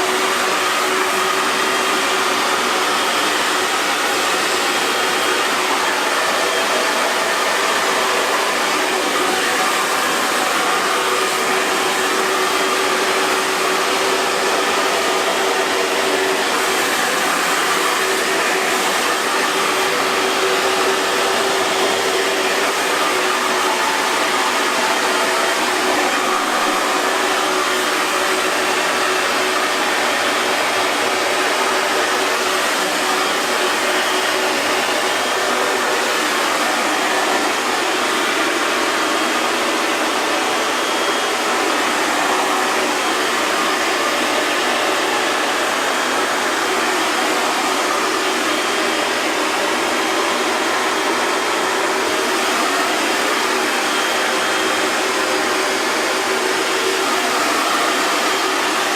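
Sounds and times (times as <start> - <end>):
hair dryer running: 0.0 - 58.9.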